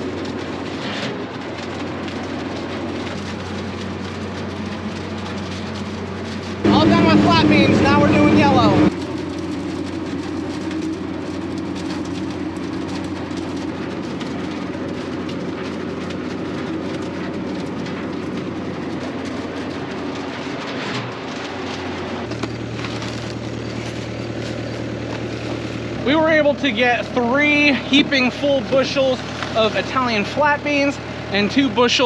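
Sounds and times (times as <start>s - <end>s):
harvesting machine drone: 0.0s - 32.0s.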